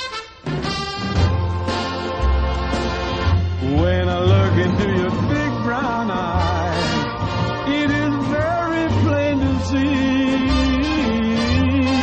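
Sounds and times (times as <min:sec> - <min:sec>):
pop music melody over bass: 0:01.0 - 0:12.0.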